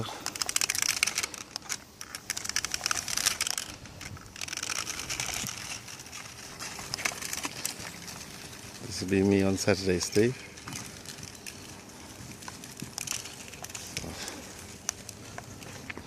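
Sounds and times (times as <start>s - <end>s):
toy car wheels crunching: 0.0s - 16.0s.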